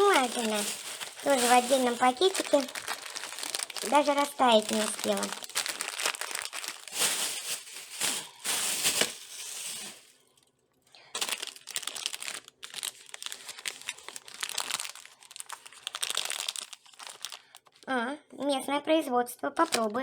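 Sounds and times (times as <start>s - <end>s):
plastic bags rustling and crinkling: 0.0s - 10.2s, 11.0s - 17.8s, 19.6s - 20.0s.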